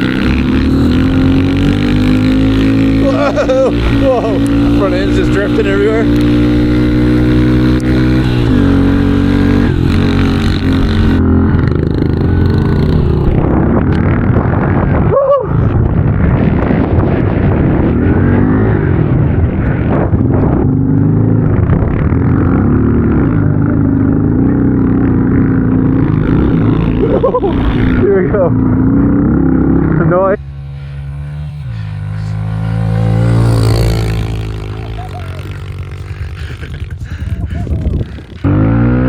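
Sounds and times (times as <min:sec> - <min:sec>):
small motorbike engine revving: 0:00.0 - 0:14.4, 0:21.7 - 0:39.0.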